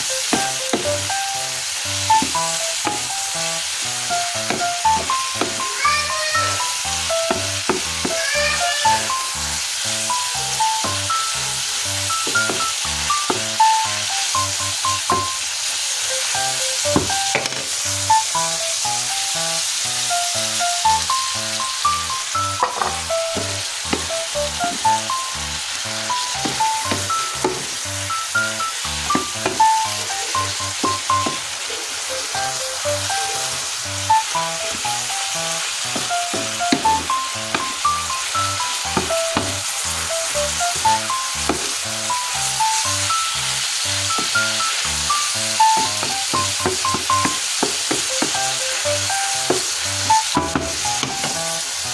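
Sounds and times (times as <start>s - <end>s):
background music with beat: 0.0s - 15.4s, 16.0s - 51.9s
food sizzling in frying pan: 0.0s - 51.9s.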